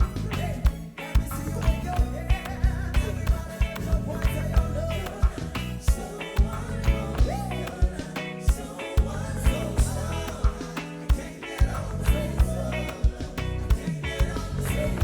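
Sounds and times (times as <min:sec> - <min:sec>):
bass line: 0:00.0 - 0:15.0
person singing: 0:00.0 - 0:15.0.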